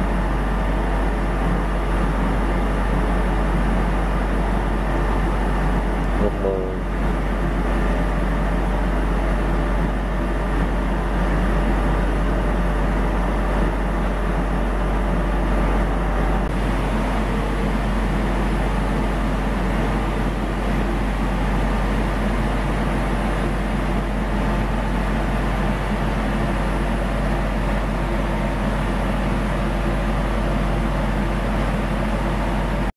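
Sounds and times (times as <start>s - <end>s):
lathe machine running: 0.0s - 32.9s.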